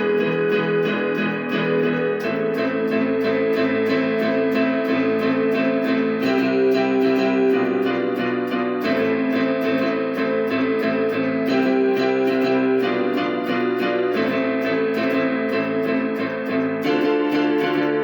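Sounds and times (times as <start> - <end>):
electronic keyboard music: 0.0 - 18.0
steady ticking beat: 0.0 - 18.0.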